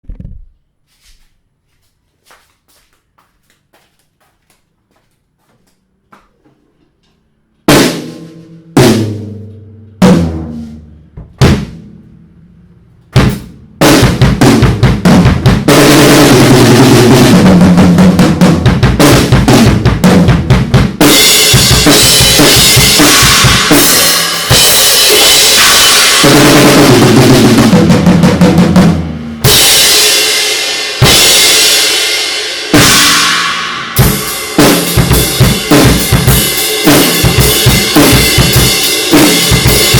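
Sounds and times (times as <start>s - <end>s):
drum kit playing: 7.6s - 39.9s.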